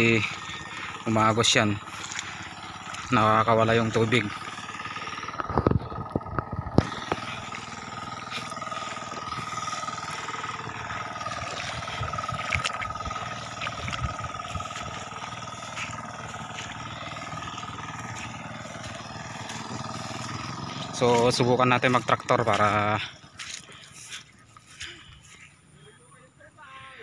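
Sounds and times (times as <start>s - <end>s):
high whine: 0.0s - 25.0s
tractor engine running: 0.0s - 27.0s.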